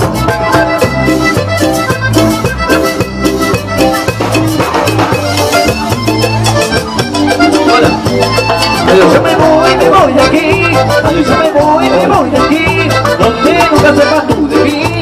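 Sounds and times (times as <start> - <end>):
live band playing cumbia: 0.0 - 15.0.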